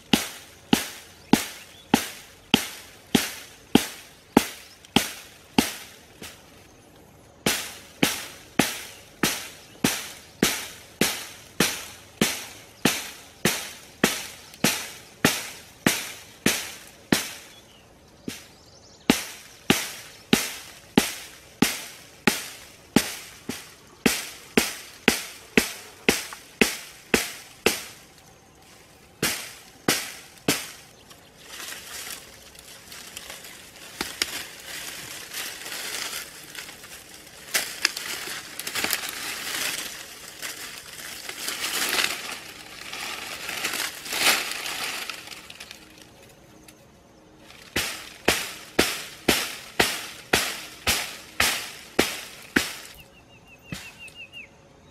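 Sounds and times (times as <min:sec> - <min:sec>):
hand tool striking dry ground: 0:00.0 - 0:06.6, 0:07.4 - 0:17.7, 0:18.3 - 0:28.3, 0:29.2 - 0:46.1, 0:47.5 - 0:53.0, 0:53.7 - 0:54.2
rustling of dry grass: 0:00.0 - 0:54.3.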